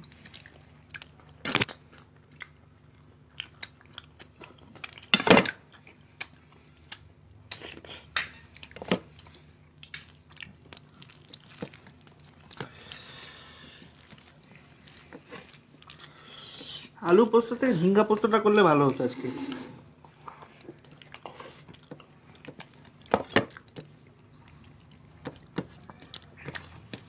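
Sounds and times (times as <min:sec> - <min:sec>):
people chewing and crunching: 0:00.0 - 0:17.7, 0:19.1 - 0:27.0.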